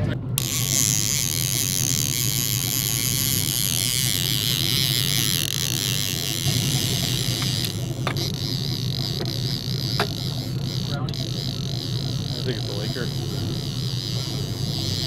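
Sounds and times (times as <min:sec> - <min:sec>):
boat engine droning: 0:00.0 - 0:15.0
fishing reel whine: 0:00.4 - 0:15.0.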